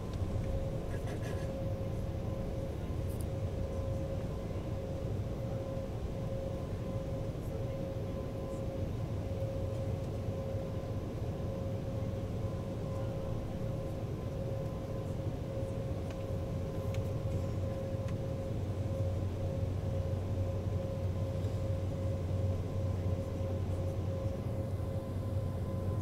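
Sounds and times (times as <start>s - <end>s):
jet engine low rumble: 0.0s - 26.0s
jet engine whine: 0.0s - 26.0s.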